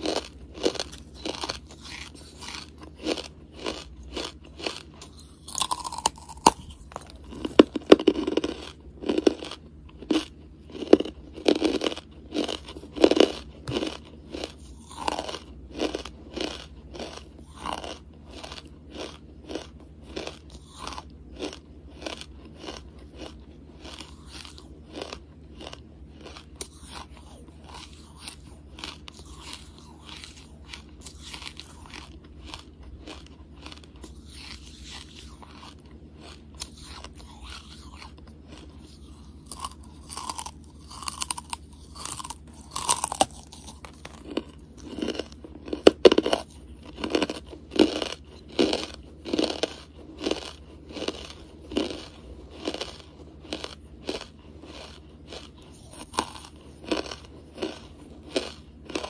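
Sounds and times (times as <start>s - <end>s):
charcoal crunching being chewed: 0.0s - 59.0s.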